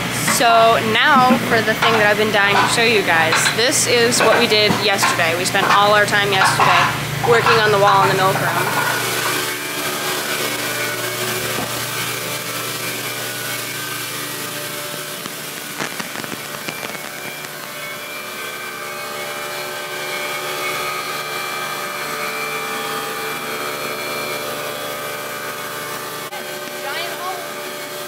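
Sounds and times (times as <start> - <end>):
machine hum with held tones: 0.0 - 28.0.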